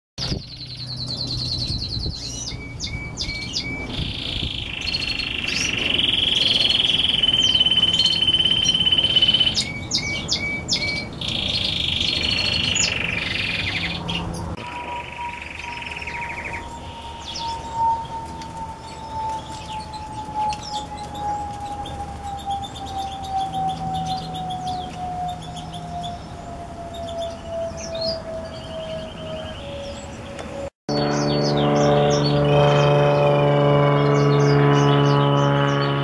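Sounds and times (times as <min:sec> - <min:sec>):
canary singing trills: 0:00.2 - 0:36.0.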